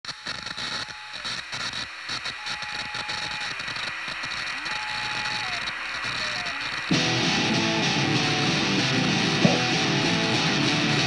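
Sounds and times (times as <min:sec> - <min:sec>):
crackling hiss: 0:00.0 - 0:11.0.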